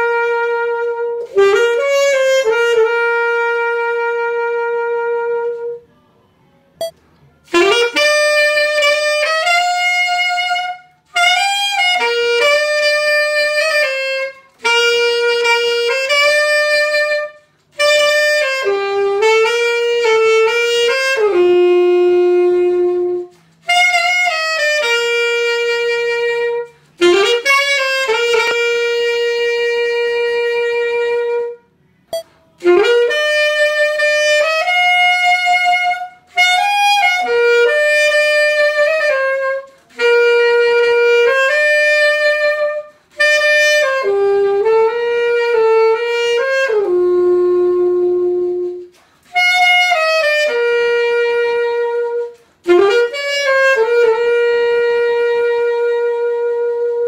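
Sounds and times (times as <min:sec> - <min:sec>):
alto saxophone playing slow melody: 0:00.0 - 0:57.0.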